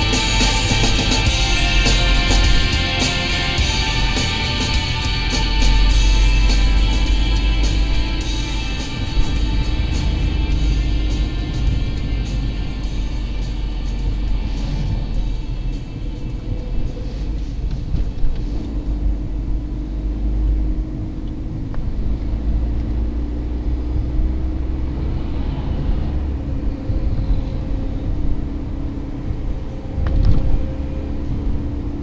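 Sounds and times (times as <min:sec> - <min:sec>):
car cabin road and engine rumble: 0:00.0 - 0:32.0
lorry passing: 0:00.0 - 0:32.0.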